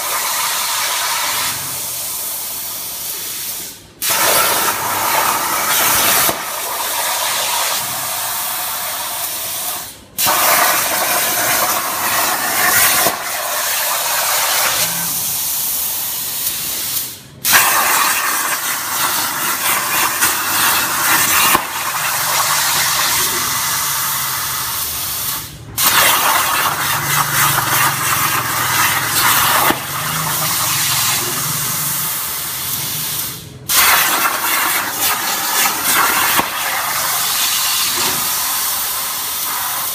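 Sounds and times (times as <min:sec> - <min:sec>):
plasma arc hissing: 0:00.0 - 0:39.9.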